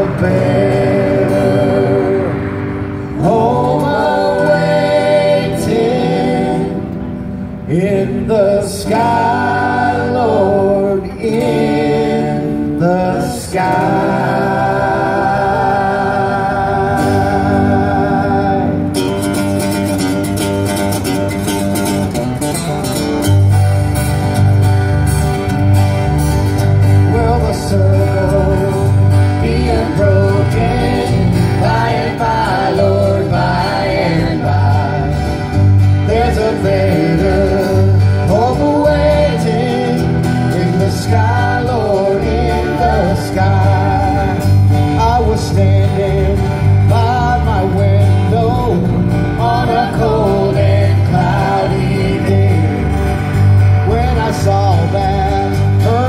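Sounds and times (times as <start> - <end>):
acoustic guitars strumming: 0.0 - 56.0
electric bass line: 0.0 - 56.0.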